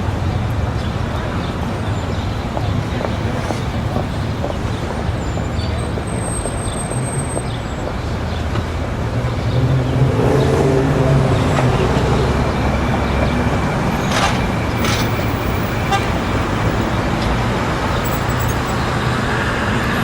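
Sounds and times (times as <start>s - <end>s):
traffic noise: 0.0s - 20.0s
crowd voices: 0.1s - 20.0s.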